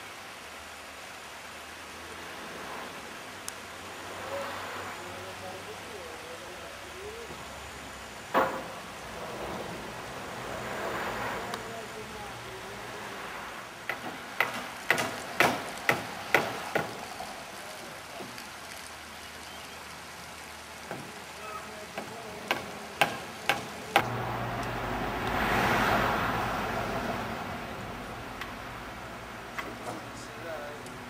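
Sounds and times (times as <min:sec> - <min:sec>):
broad rushing noise: 0:00.0 - 0:19.2, 0:19.8 - 0:31.0.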